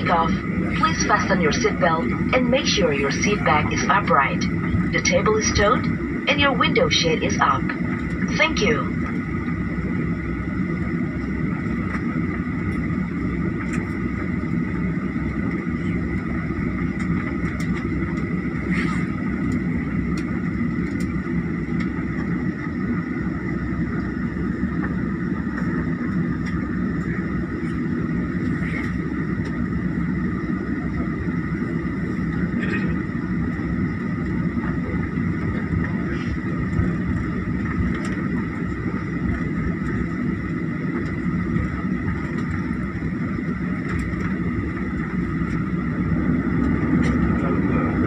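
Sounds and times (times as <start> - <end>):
jet engines rumbling and whining: 0.0 - 48.0.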